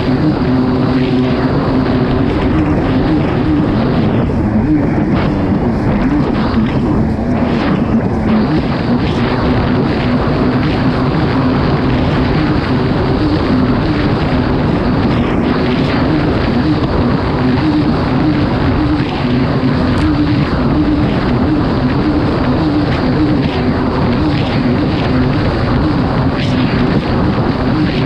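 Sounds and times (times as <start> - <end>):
jet ski engine running hard: 0.0 - 28.0
loud rushing noise: 0.0 - 28.0.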